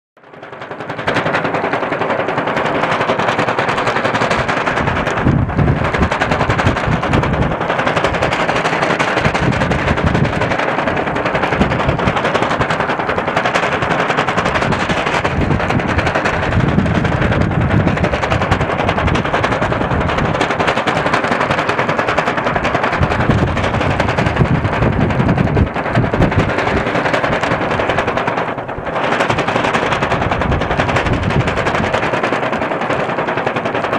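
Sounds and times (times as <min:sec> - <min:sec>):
gusty wind buffeting microphone: 0:00.3 - 0:33.9.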